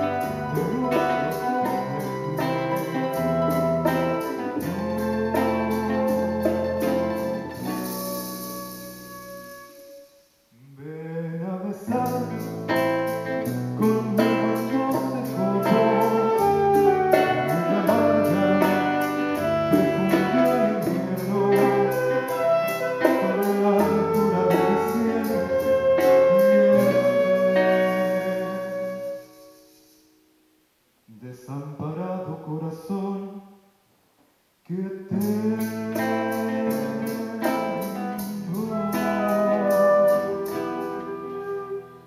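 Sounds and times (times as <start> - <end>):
folk ensemble playing: 0.0 - 10.4, 11.9 - 30.0, 35.2 - 42.0.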